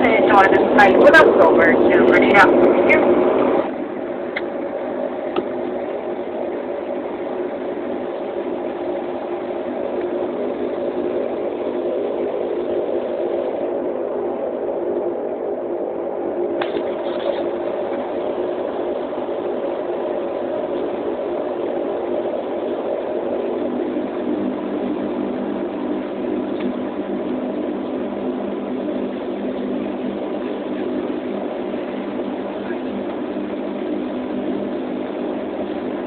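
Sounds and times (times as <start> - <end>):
airliner engines humming: 0.0 - 36.0.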